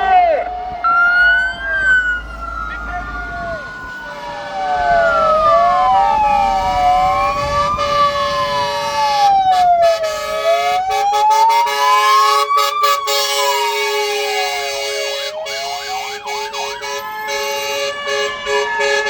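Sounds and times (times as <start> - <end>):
fire engine sirens wailing: 0.0 - 19.0
steady held siren tone: 0.1 - 19.0.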